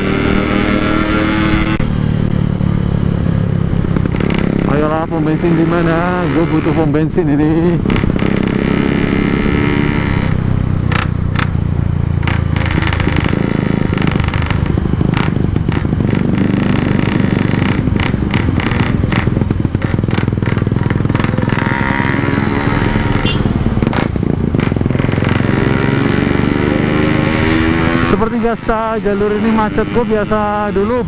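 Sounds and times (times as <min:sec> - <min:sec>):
two-stroke motorcycle revving: 0:00.0 - 0:31.0.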